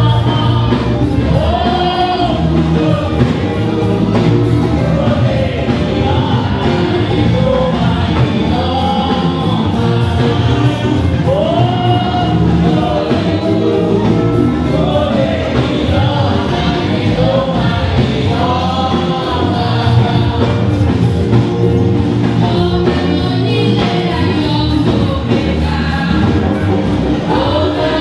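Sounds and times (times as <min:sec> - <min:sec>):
choir singing gospel song: 0:00.0 - 0:28.0
instrumental accompaniment with beat: 0:00.0 - 0:28.0.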